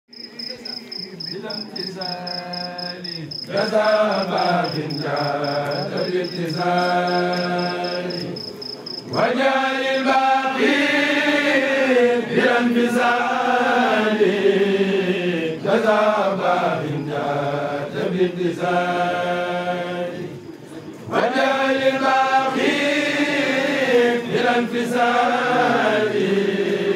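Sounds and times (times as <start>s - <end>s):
group of men chanting: 1.9s - 8.4s, 9.1s - 20.3s, 21.1s - 26.9s.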